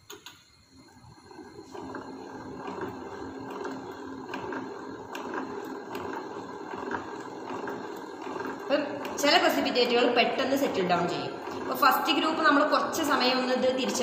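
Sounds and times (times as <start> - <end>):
hand-cranked centrifuge whirring: 0.0 - 14.0.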